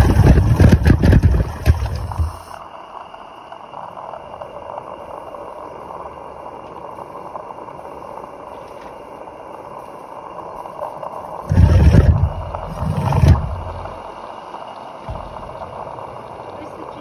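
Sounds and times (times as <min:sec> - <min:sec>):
steam hissing: 0:01.7 - 0:17.0.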